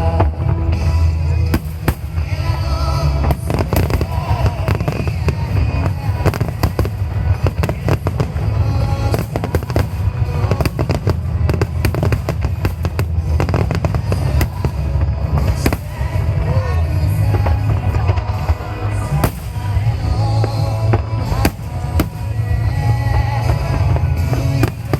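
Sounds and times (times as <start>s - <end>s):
continuous low rumble: 0.0s - 24.9s
fireworks bursting: 0.0s - 24.9s
sharp bangs and crackles: 0.2s - 24.9s.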